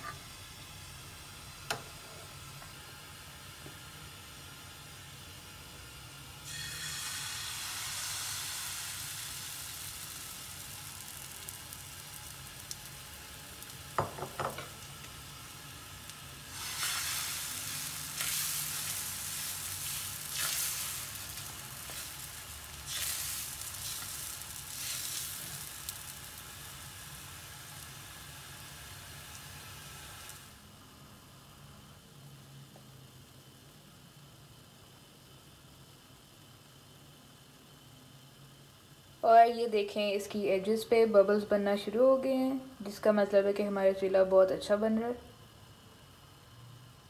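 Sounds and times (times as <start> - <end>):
batter sizzling on hot griddle: 0.0 - 39.4.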